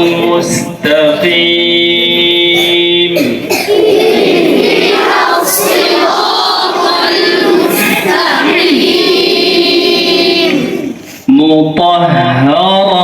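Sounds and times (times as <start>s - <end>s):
children reciting in unison: 0.0s - 11.4s.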